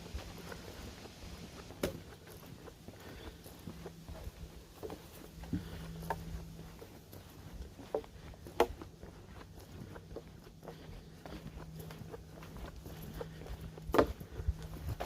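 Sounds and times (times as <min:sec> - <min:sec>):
footsteps crunching on trail: 0:00.0 - 0:15.0.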